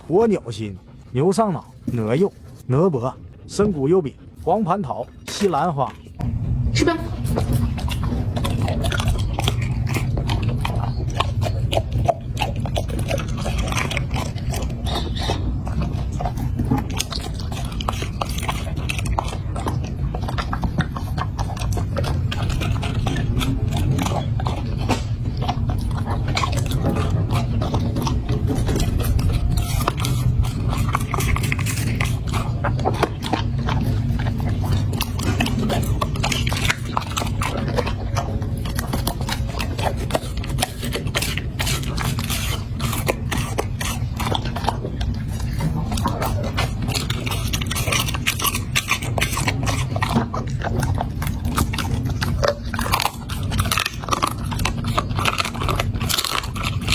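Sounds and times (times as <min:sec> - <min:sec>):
dog chewing and crunching bone: 0:00.0 - 0:56.9
steady low hum: 0:00.0 - 0:56.9.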